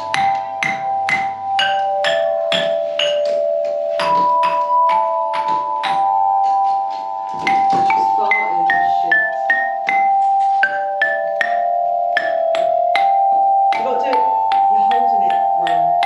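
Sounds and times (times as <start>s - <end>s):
metal chime tubes struck by mallet: 0.0s - 16.0s.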